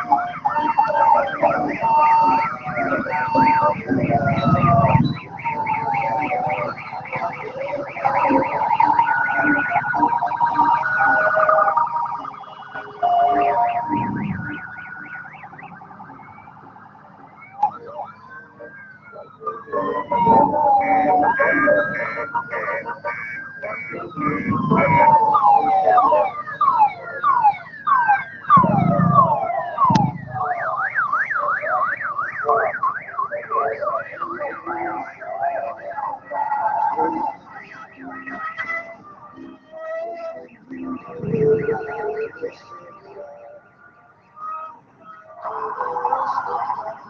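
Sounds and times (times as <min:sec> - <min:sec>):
held siren tones: 0:00.0 - 0:47.0
vehicle siren yelping: 0:00.0 - 0:47.0.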